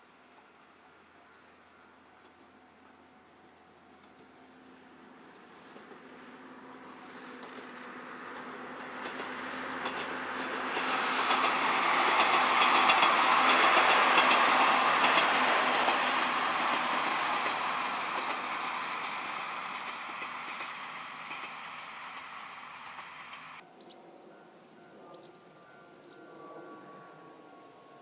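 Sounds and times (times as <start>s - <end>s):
diesel railcar passing: 0.0s - 28.0s.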